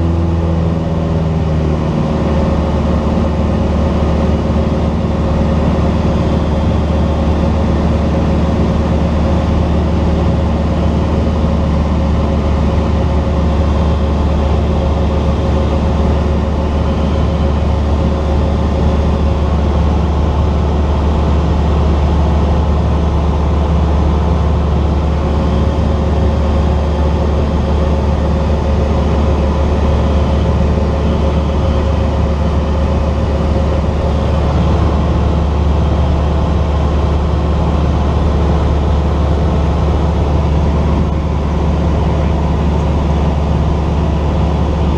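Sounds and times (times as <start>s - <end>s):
propeller aircraft engine drone: 0.0s - 44.9s.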